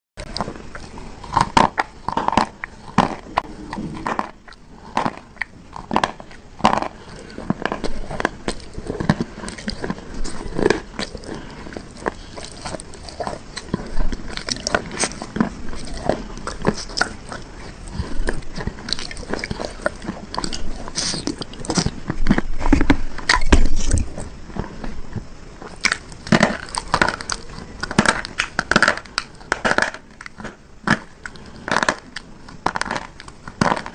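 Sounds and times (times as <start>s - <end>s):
person crunching crunchy bars: 0.2s - 33.9s.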